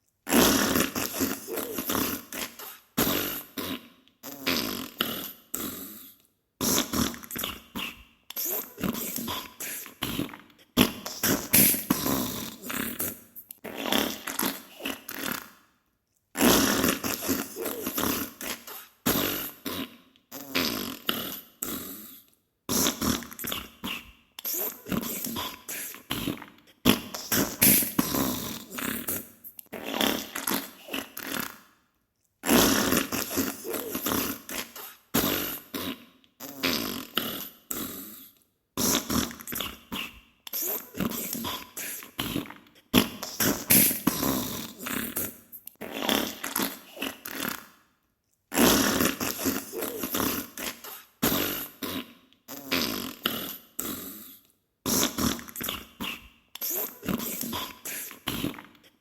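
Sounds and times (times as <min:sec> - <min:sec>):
wet sputtering farts: 0:00.3 - 0:15.6, 0:16.4 - 0:21.8, 0:22.7 - 0:31.6, 0:32.4 - 0:38.0, 0:38.8 - 0:47.8, 0:48.5 - 0:54.2, 0:54.9 - 0:58.8.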